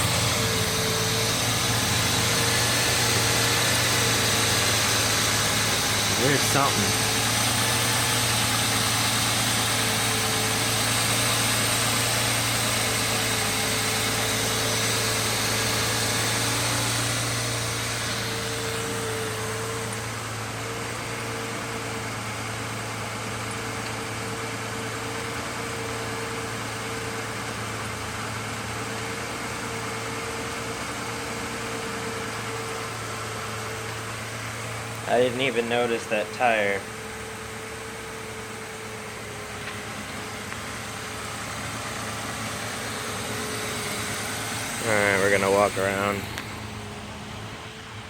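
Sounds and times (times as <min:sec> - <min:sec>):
truck engine idling: 0:00.0 - 0:48.0.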